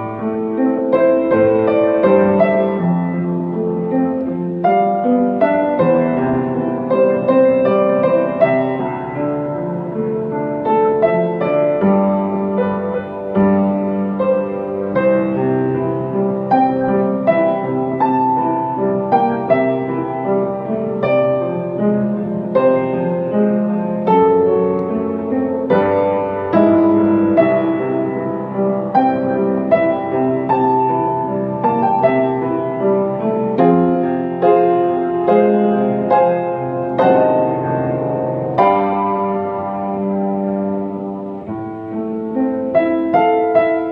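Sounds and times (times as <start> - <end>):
solo piano ballad: 0.0 - 43.9.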